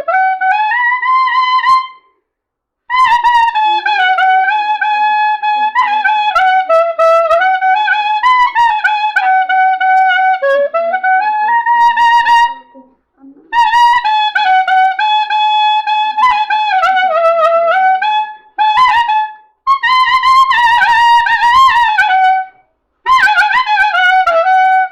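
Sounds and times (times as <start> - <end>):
clarinet solo melody: 0.0 - 2.1, 2.9 - 24.9.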